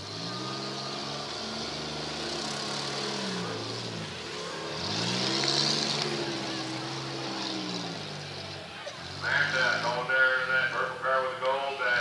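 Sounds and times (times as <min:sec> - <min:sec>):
car engines revving hard: 0:00.0 - 0:12.0.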